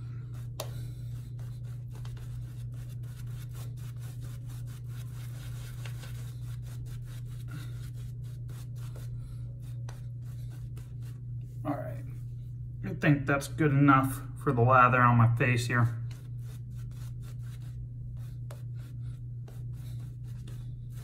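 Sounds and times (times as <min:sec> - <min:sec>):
steady low hum: 0:00.0 - 0:21.0
shaving brush scrubbing face: 0:00.2 - 0:12.4, 0:16.1 - 0:21.0.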